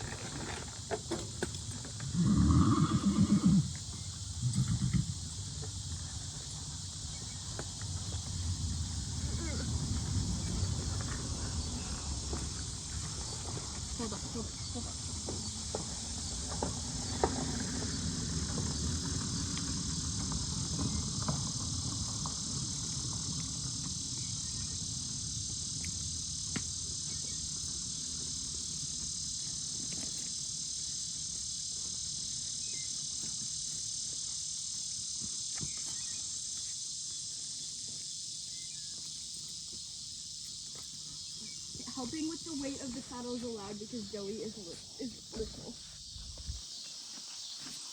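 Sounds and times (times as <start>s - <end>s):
insects chirping: 0.0s - 47.9s.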